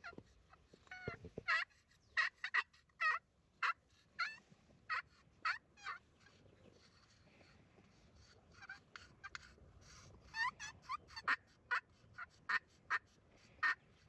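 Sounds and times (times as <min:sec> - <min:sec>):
turkey call yelps: 0:00.8 - 0:07.1, 0:08.2 - 0:14.0.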